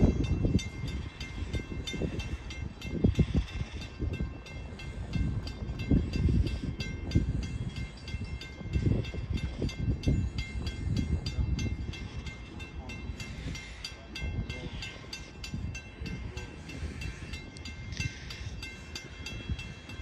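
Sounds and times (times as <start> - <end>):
crossing warning bell ringing: 0.0 - 20.0.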